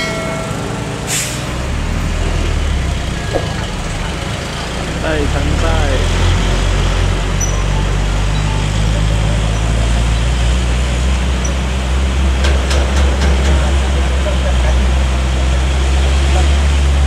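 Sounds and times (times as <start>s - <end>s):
diesel truck engine droning: 0.0s - 17.0s
traffic and wet tyres hiss: 0.0s - 17.0s.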